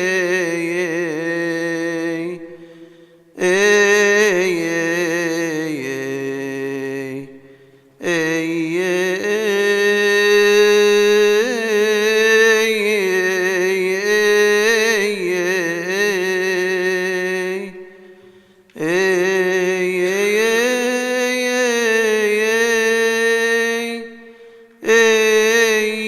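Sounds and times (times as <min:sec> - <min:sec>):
man chanting a hymn: 0:00.0 - 0:26.0.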